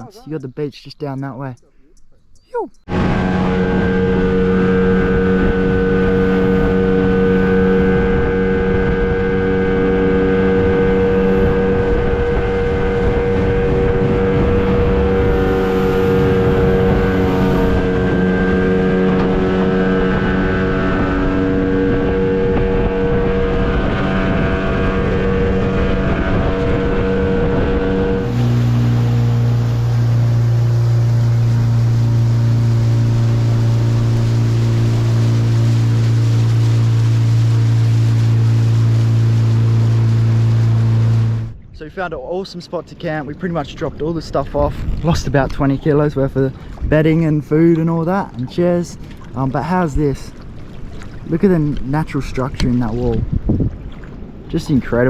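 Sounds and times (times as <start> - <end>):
outboard motor running: 1.9 - 41.7, 44.5 - 55.0
hull rushing through water: 2.9 - 55.0.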